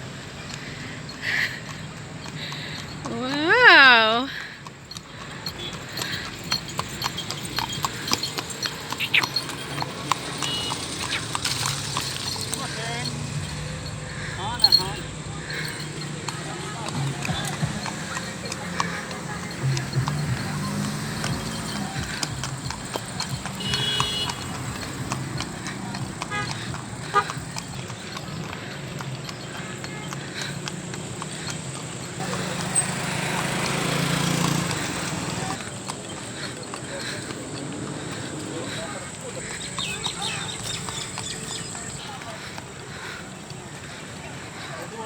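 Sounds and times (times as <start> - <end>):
horse hooves clip-clopping: 0.0 - 45.0.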